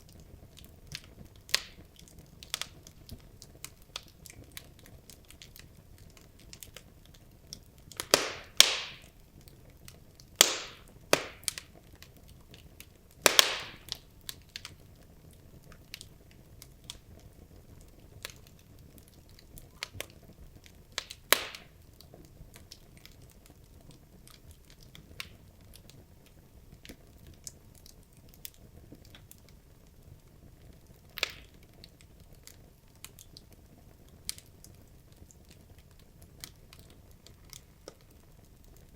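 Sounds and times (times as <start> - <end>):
wood fire hissing and crackling: 0.0 - 38.9
sharp pops of burning logs: 0.1 - 14.8, 18.2 - 29.5, 30.8 - 33.5, 34.2 - 38.2.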